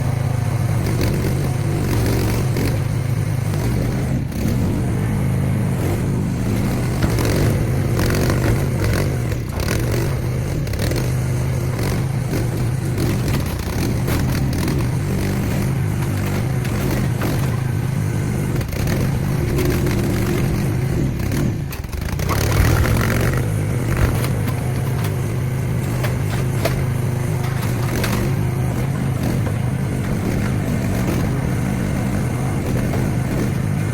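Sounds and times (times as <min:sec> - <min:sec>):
excavator engine running: 0:00.0 - 0:33.9
metal scraping and knocks: 0:06.4 - 0:33.9.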